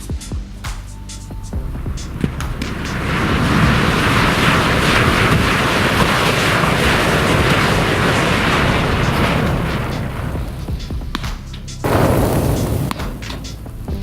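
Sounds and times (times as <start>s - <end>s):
low rumble: 0.5s - 14.0s
burning matches and sparklers hissing: 1.1s - 14.0s.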